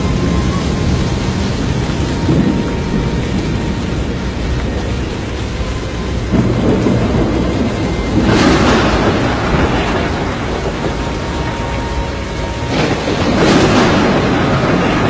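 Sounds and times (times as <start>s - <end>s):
tornado wind and rain rushing: 0.0s - 15.0s.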